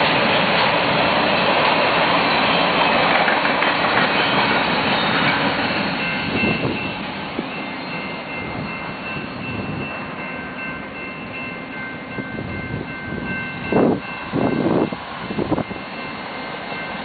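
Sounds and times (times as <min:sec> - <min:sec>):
crossing warning bell ringing: 0:00.0 - 0:17.0
low rumble of passing train: 0:00.0 - 0:17.0.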